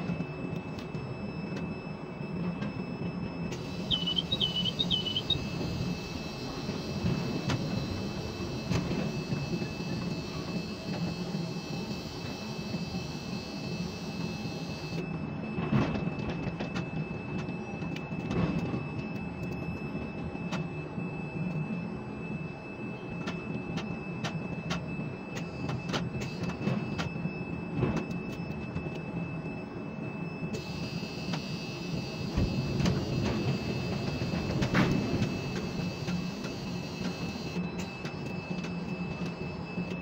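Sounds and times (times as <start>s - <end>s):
faint steady whine: 0.0s - 15.6s, 18.8s - 40.0s
crane machinery hum: 0.0s - 40.0s.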